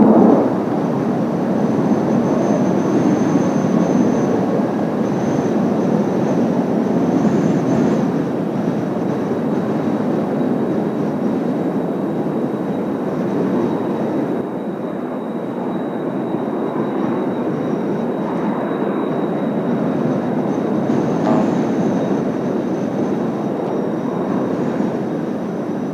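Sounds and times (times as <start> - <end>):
distant jet engines rumbling: 0.0 - 25.9.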